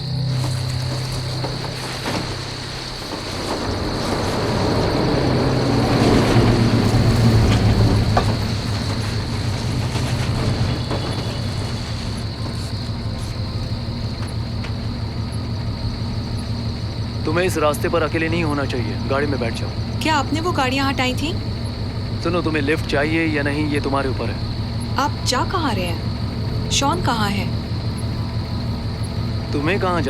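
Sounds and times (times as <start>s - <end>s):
vehicle engine approaching and idling: 0.0s - 30.0s.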